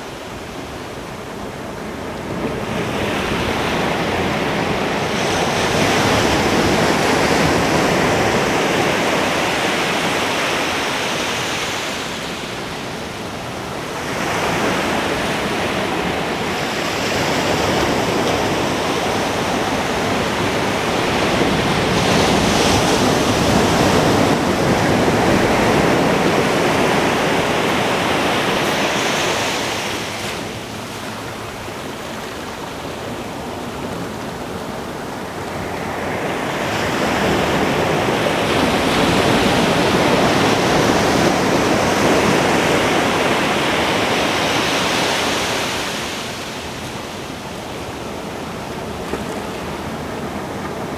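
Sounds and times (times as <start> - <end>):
ocean waves breaking: 0.0 - 50.9.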